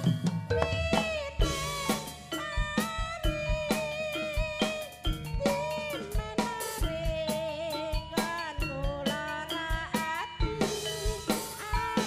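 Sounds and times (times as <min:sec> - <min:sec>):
loud music with drums: 0:00.0 - 0:12.0.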